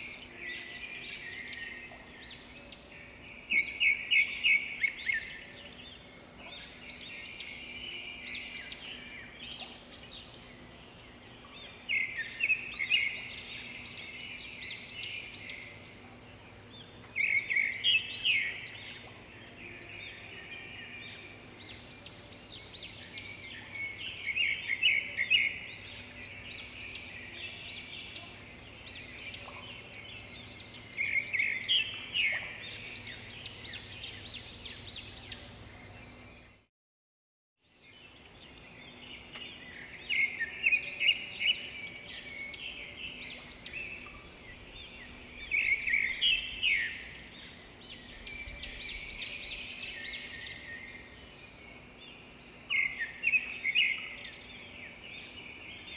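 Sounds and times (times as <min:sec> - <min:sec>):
small birds chirping: 0:00.0 - 0:36.7, 0:37.6 - 0:55.9.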